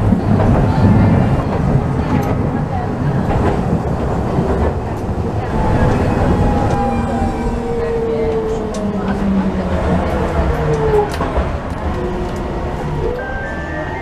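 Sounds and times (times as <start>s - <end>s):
streetcar wheels rumbling on rails: 0.0s - 14.0s.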